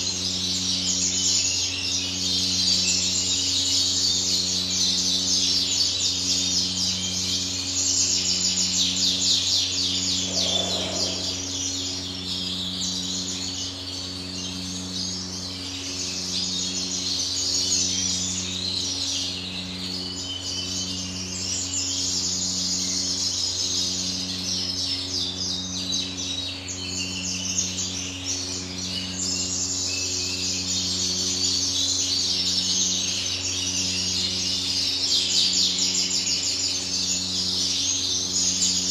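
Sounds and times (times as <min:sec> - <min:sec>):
caged birds chirping: 0:00.0 - 0:38.9
pulsing electrical hum: 0:00.0 - 0:38.9.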